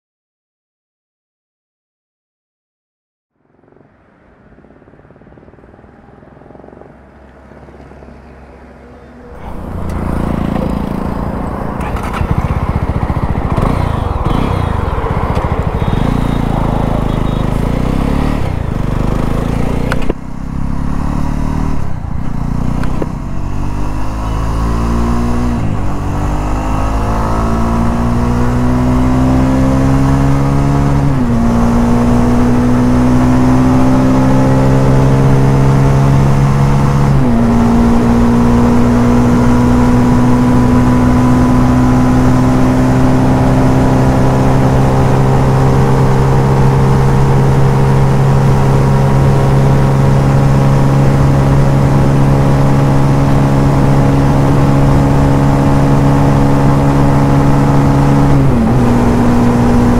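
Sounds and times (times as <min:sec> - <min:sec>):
motorcycle engine accelerating: 0:09.0 - 0:59.9.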